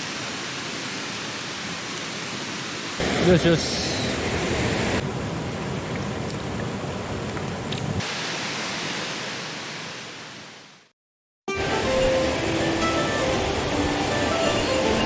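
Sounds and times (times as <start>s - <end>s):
rushing stream water: 0.0s - 10.6s, 11.5s - 15.0s.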